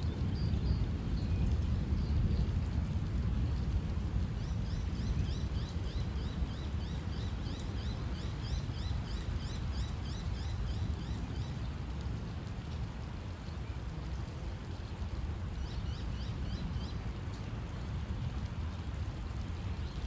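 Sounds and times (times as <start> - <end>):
heavy storm rain: 0.0 - 20.0.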